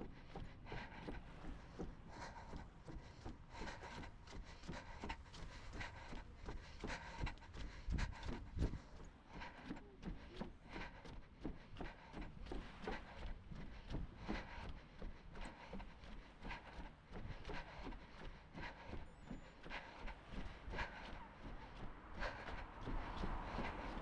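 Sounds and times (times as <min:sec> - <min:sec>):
footsteps on wooden boards: 0:00.0 - 0:24.0
runner breathing: 0:00.0 - 0:24.0.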